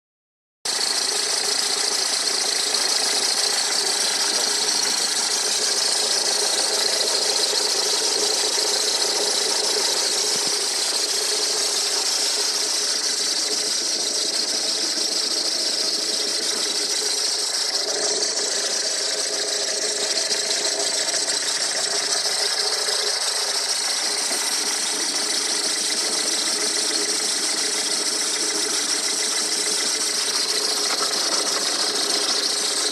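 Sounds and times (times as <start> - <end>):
diesel engine running: 0.7 - 32.9
high-pitched squeal: 0.7 - 32.9.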